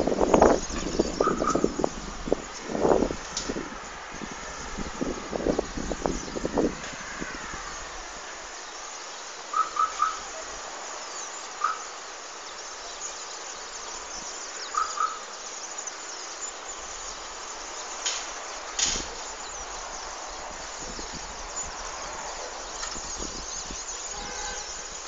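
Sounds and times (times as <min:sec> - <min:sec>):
bird chirping: 0:00.0 - 0:25.0
steady outdoor hiss: 0:00.0 - 0:25.0.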